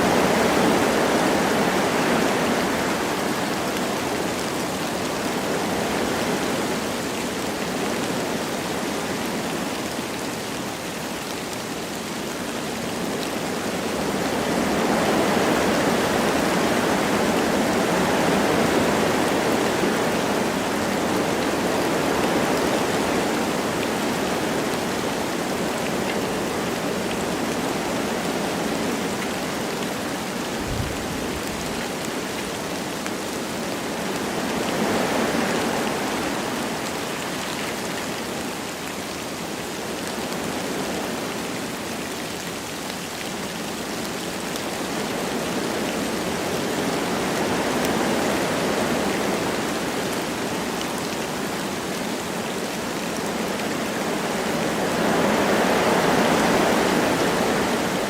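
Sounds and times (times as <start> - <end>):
light rain falling: 0.0 - 58.0
wind through trees: 0.0 - 58.0.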